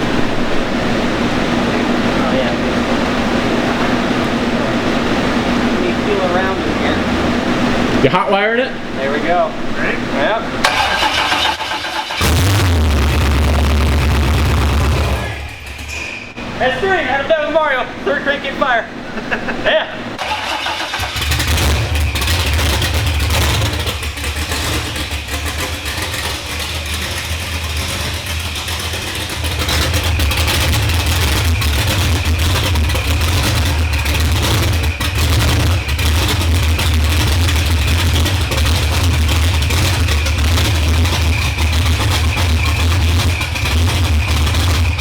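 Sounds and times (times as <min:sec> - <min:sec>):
vee eight engine rumbling: 0:00.0 - 0:45.0.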